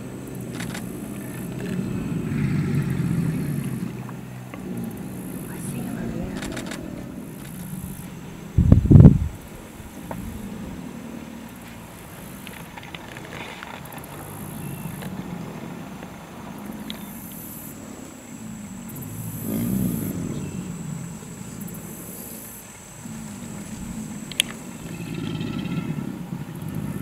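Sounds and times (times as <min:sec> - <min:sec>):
alligators bellowing: 0:00.0 - 0:27.0.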